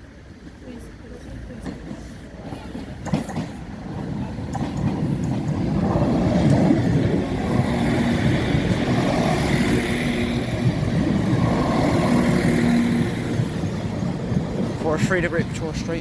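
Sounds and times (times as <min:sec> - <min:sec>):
train engine and wheels rumbling: 0:00.0 - 0:16.0.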